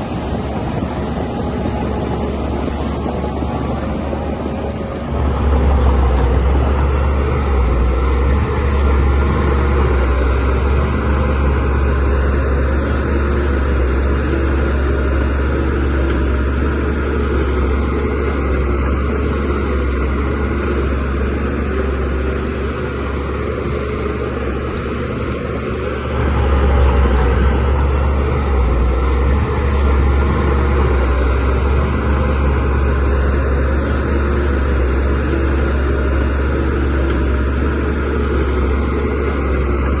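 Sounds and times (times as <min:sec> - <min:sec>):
bulldozer diesel engine rumbling: 0:00.0 - 0:40.0.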